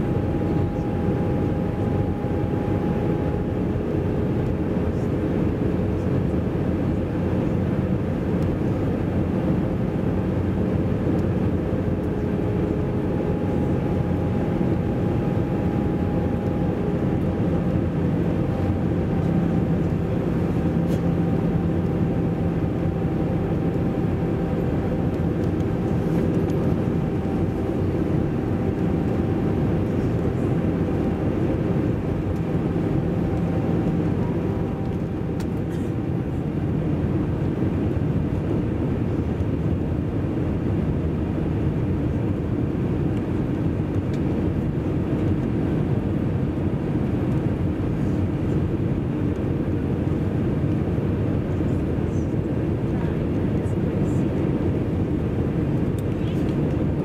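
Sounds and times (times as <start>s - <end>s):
jet engines humming: 0.0s - 57.0s.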